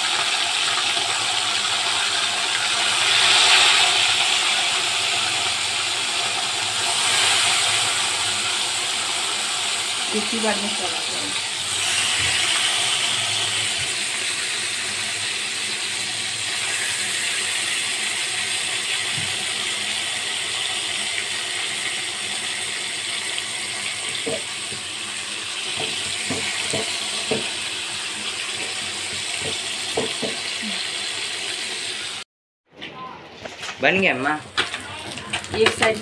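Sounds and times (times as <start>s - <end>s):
fish sizzling in hot oil: 0.0s - 32.2s, 34.1s - 36.0s.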